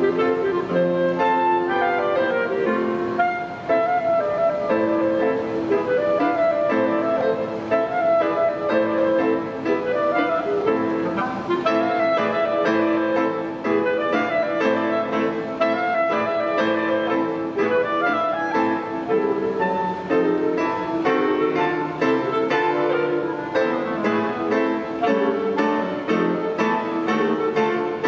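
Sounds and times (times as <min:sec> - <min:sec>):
clarinet melody: 0:00.0 - 0:28.0
grand piano notes: 0:00.0 - 0:28.0.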